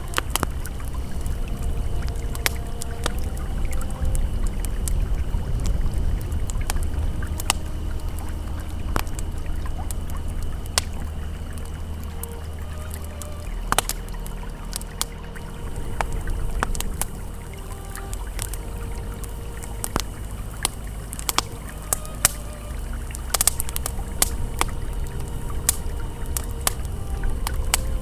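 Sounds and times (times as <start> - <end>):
campfire crackling and popping: 0.0 - 28.0
river flowing: 0.0 - 28.0.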